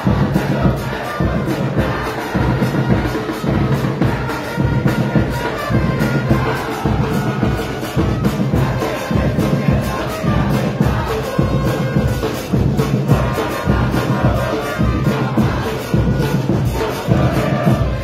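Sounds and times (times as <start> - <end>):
bass drums beating: 0.0 - 18.0
crowd chanting: 0.0 - 18.0
trumpets and brass horns: 0.0 - 18.0.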